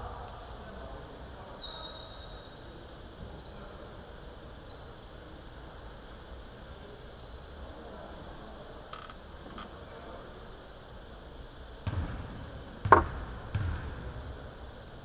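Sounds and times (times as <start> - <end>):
gym hall background noise: 0.0 - 15.0.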